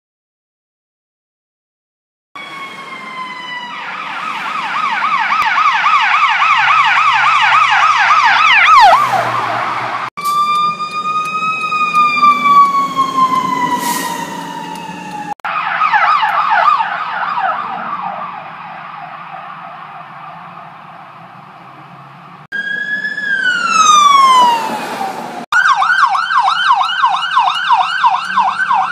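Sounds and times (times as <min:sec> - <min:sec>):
siren yelp: 0:02.4 - 0:21.7, 0:22.5 - 0:28.9
siren wail: 0:02.4 - 0:28.9.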